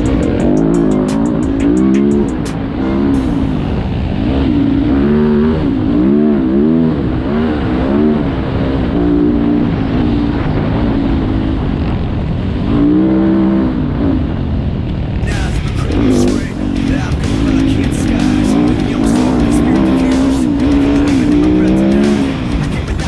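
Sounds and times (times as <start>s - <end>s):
dirt bike engine revving: 0.0s - 14.6s, 15.2s - 23.0s
low riding rumble: 0.0s - 23.0s.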